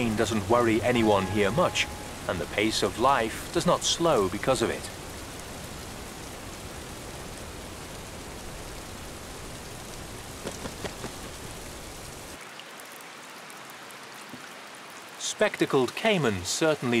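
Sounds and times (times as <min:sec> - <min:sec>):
rain on foliage and water: 0:00.0 - 0:17.0.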